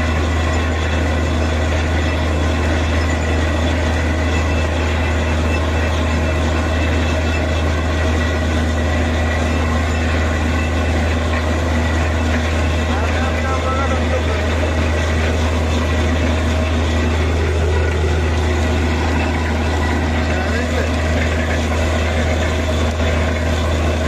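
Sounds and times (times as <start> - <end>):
drilling rig engine drone: 0.0 - 24.0.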